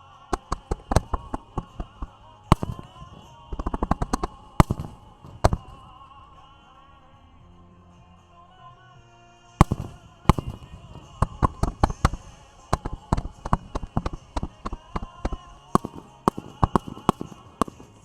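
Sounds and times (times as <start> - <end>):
fireworks bursting with sharp bangs: 0.0 - 7.4, 9.6 - 18.0
music: 0.0 - 18.0.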